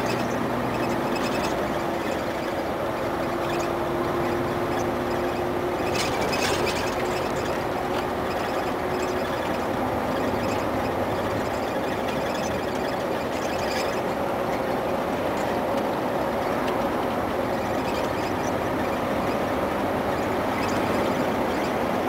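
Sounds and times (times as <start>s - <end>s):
light rattles: 0.0s - 21.8s
diesel engine running: 0.0s - 22.0s
tyre and road noise: 0.0s - 22.0s.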